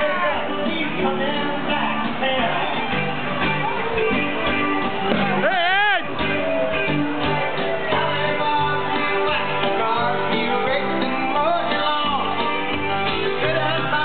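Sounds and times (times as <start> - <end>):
country song with guitar and singing: 0.0 - 14.0.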